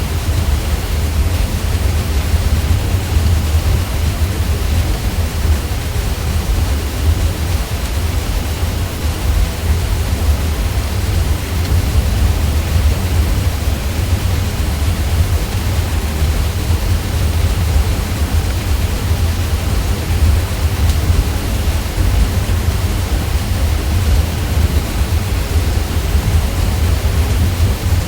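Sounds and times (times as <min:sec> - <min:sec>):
ceiling fan hum: 0:00.0 - 0:28.0
hiss of moving air: 0:00.0 - 0:28.0.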